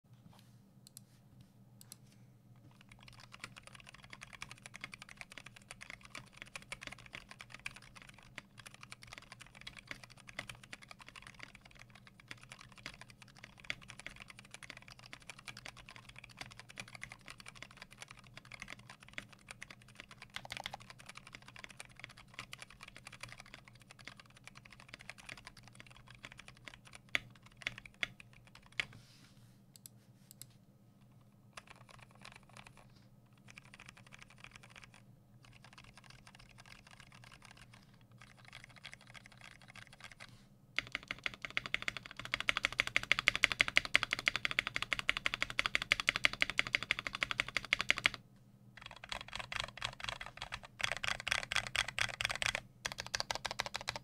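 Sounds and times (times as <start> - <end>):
mechanical keyboard typing: 2.7 - 28.9, 31.5 - 48.2, 48.8 - 54.0.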